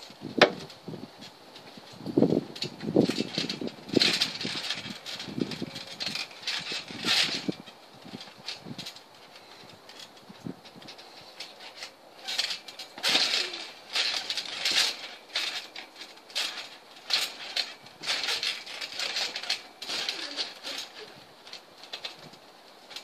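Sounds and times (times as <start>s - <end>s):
trampoline springs creaking and clinking: 0.0s - 23.0s.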